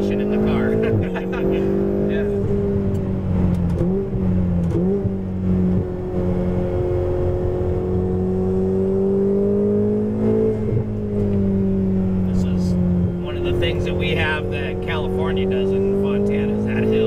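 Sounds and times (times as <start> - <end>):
car engine revving in cabin: 0.0 - 17.0
gear change: 0.0 - 17.0.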